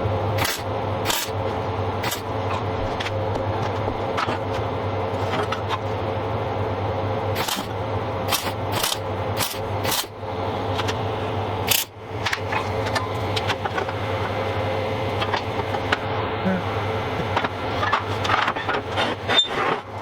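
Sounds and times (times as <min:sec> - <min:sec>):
workshop hum: 0:00.0 - 0:20.0.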